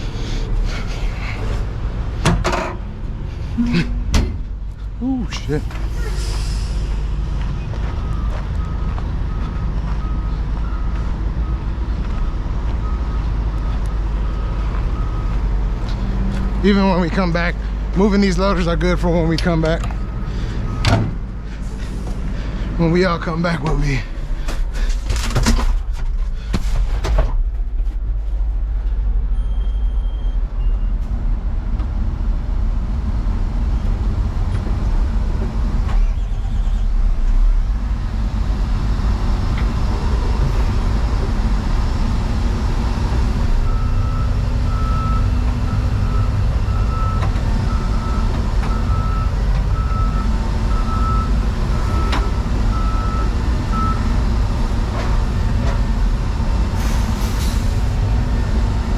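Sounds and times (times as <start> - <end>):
diesel engine rumbling: 0.0 - 58.9.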